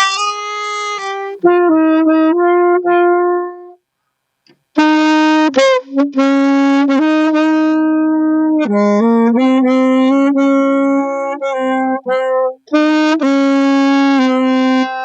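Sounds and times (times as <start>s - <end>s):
saxophone slow melody: 0.0s - 3.9s, 4.7s - 15.0s.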